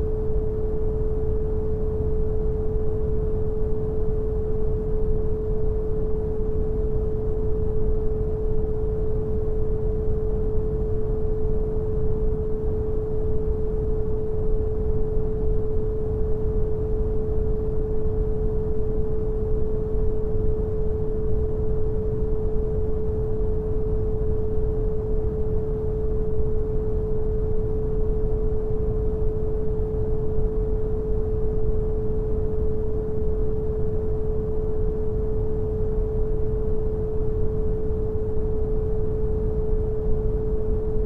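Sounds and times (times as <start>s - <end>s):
pure sine tone: 0.0s - 41.0s.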